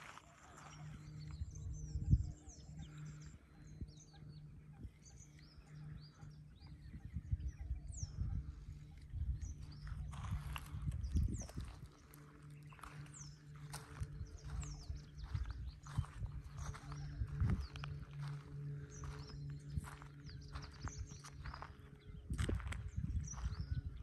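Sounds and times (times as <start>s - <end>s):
small birds chirping: 0.0s - 24.0s
steady low hum: 0.0s - 24.0s
low rumble gusts: 0.7s - 24.0s.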